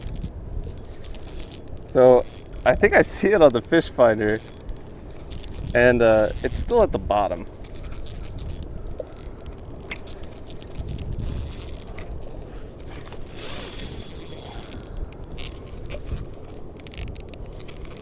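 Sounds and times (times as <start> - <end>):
fishing reel clicking and grinding: 0.0 - 18.0
wind and water rumble: 0.0 - 18.0.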